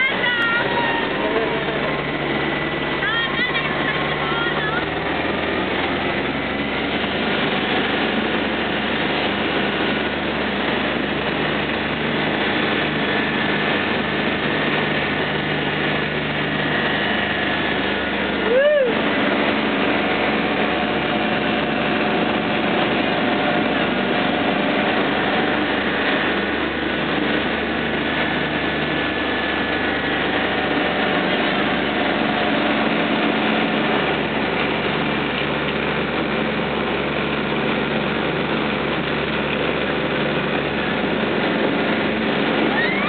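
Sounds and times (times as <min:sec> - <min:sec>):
motorboat engine running: 0:00.0 - 0:43.0
rushing noise: 0:00.0 - 0:43.0.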